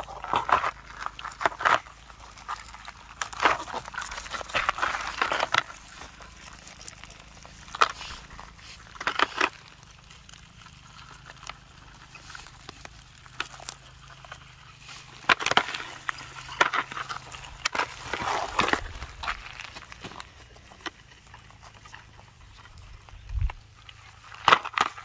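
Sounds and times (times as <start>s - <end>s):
rustling and crackling: 0.0s - 25.0s.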